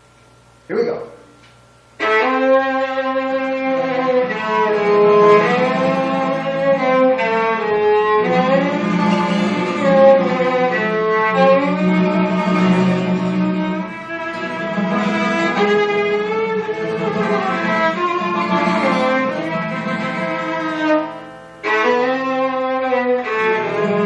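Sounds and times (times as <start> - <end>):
bowed string slow melody: 3.0 - 24.0.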